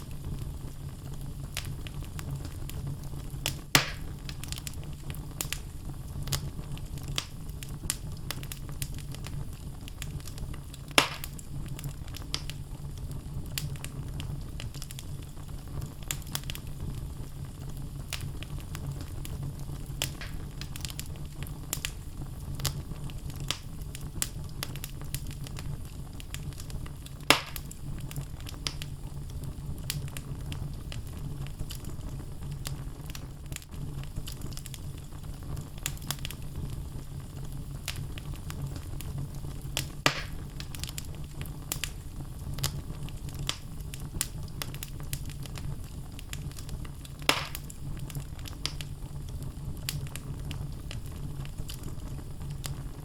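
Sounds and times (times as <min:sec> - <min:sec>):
fire flames rumbling: 0:00.0 - 0:53.0
wood fire crackling and popping: 0:00.0 - 0:53.0.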